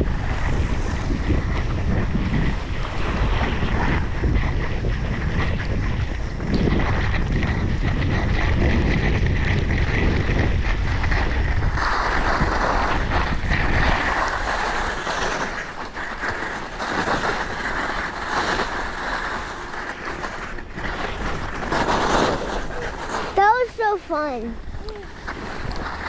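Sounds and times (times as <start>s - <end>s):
skis scraping over snow: 0.0s - 26.0s
wind rumbling on microphone: 0.0s - 26.0s.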